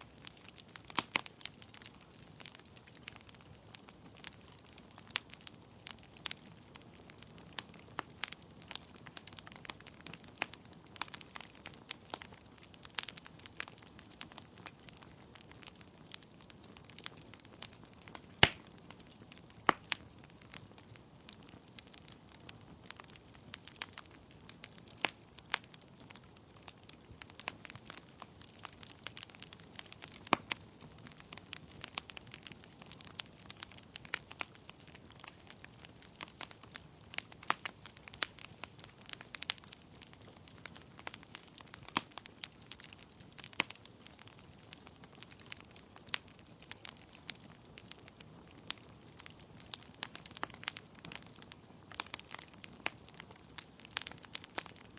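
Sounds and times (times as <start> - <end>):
logs crackling in fire: 0.0 - 54.9.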